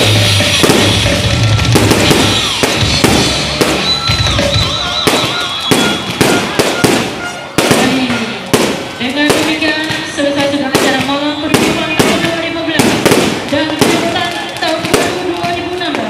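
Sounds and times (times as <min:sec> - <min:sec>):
fireworks bangs and bursts: 0:00.0 - 0:16.0
fireworks crackle: 0:00.0 - 0:16.0.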